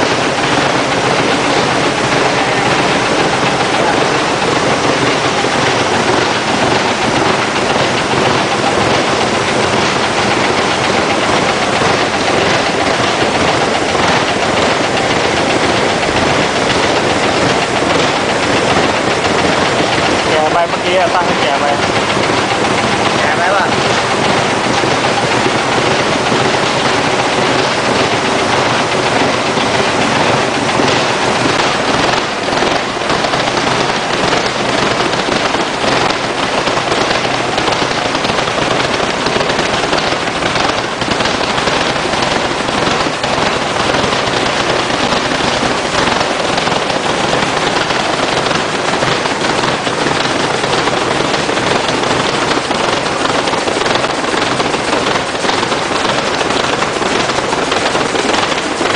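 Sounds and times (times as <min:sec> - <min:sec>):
turbo engine running steadily: 0:00.0 - 0:58.9.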